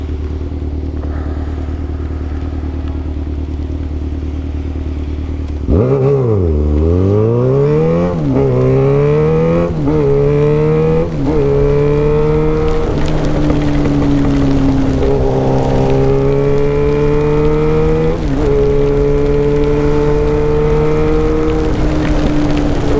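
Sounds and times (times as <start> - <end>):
motorcycle engine accelerating: 0.0 - 22.9.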